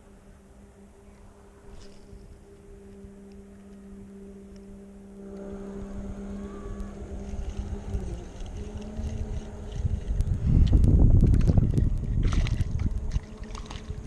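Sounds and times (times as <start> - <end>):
boat motor humming: 0.0 - 14.0
wind rumble on microphone: 0.0 - 14.0
faint ticks: 1.1 - 14.0.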